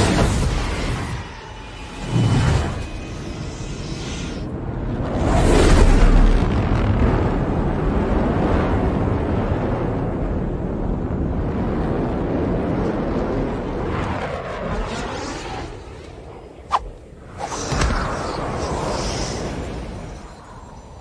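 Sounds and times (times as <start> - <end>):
rushing jet noise and wind: 0.0 - 21.0.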